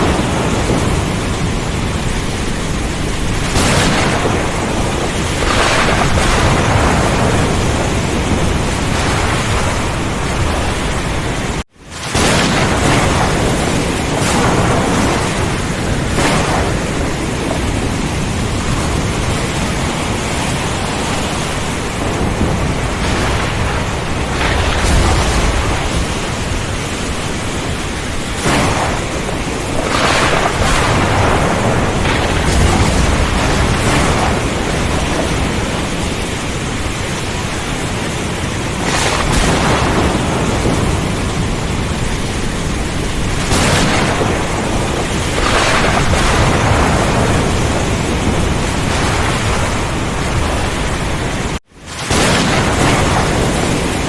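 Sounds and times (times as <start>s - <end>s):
deep roll of thunder: 0.0s - 54.0s
heavy rain: 0.0s - 54.0s
wind: 0.0s - 54.0s.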